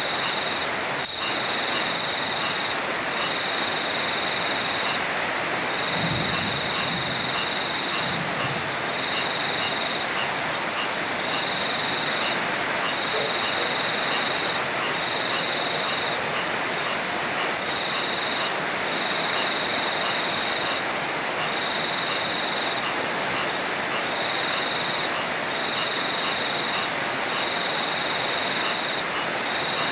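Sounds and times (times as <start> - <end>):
flowing river: 0.0 - 29.9
heavy rain: 0.0 - 29.9.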